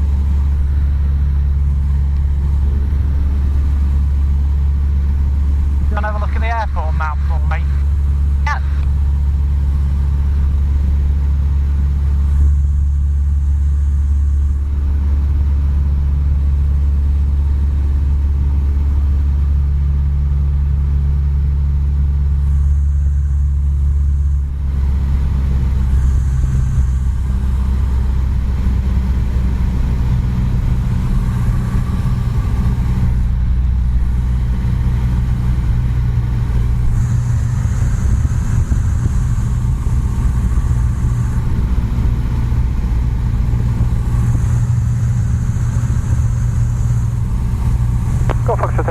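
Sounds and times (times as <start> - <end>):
propeller aircraft engine droning: 0.0 - 48.9.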